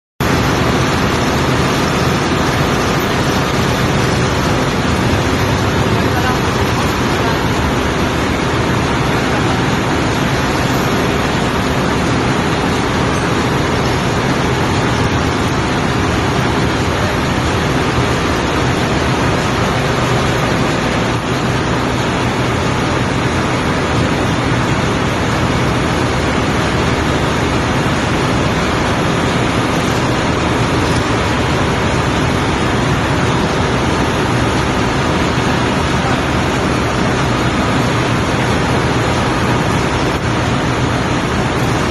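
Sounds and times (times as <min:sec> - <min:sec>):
engine room machinery running: 0:00.2 - 0:41.9.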